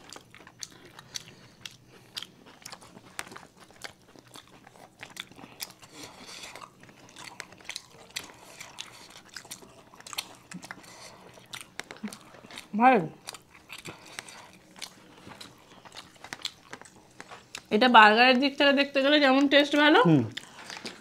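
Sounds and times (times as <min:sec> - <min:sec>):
chewing and biting food: 0:00.0 - 0:17.8, 0:19.4 - 0:21.0.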